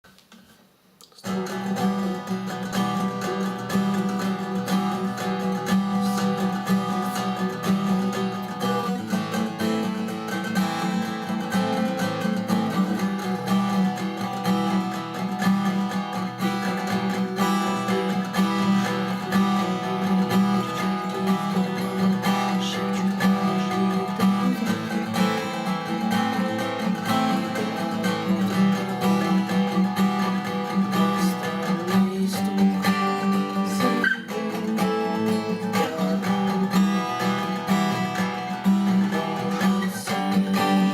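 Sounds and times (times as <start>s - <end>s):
acoustic guitar strumming: 1.1s - 40.9s.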